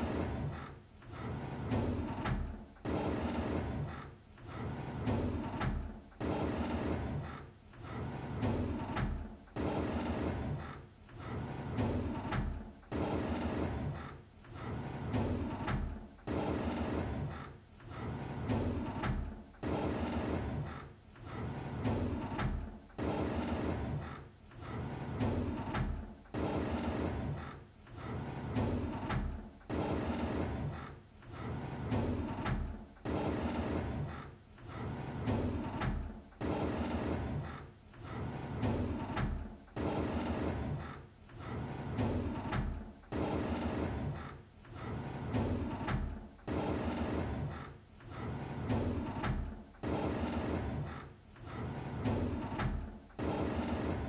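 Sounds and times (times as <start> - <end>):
drawer sliding open: 0.0 - 54.0.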